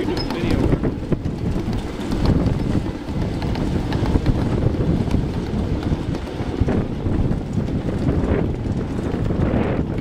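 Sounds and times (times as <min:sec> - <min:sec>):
miniature train wheels rumbling: 0:00.0 - 0:10.0
wind buffeting microphone: 0:00.0 - 0:10.0.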